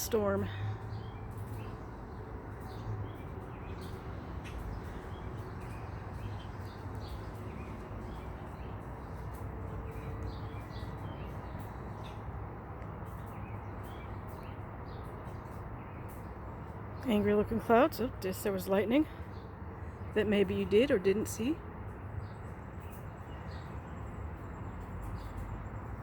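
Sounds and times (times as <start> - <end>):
low outdoor background noise: 0.0 - 26.0
small birds chirping: 0.0 - 26.0.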